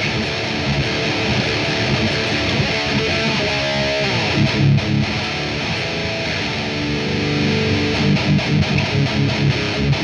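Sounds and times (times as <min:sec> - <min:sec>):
distorted electric guitar riffing: 0:00.0 - 0:10.0.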